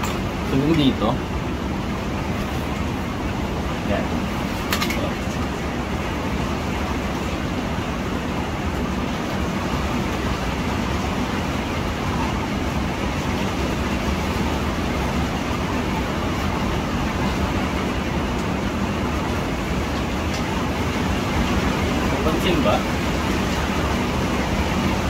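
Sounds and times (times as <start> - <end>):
garment steamer humming: 0.0 - 25.0.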